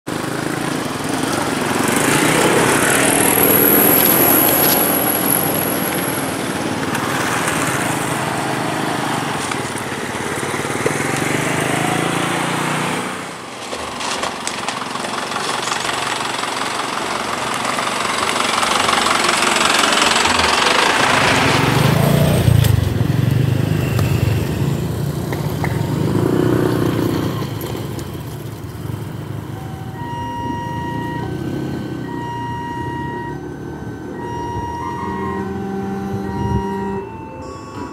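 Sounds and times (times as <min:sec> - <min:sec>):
vehicle engines passing: 0:00.1 - 0:37.9.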